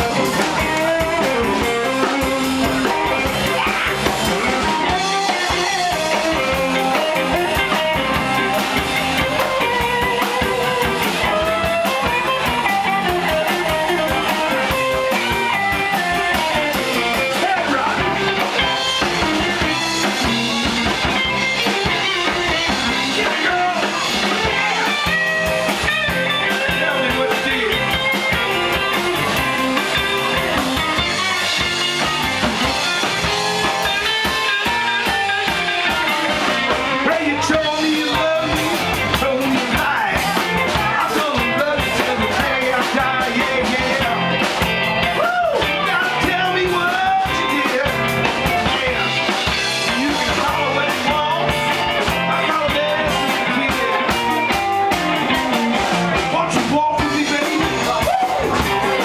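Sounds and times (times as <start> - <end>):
rock music with guitar and drums: 0.0 - 59.0.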